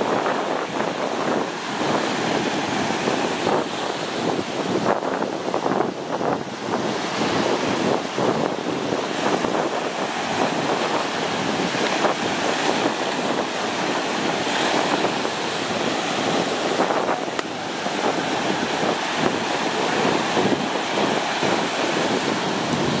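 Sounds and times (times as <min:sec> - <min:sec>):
sea waves breaking: 0:00.0 - 0:23.0
wind buffeting microphone: 0:00.0 - 0:23.0.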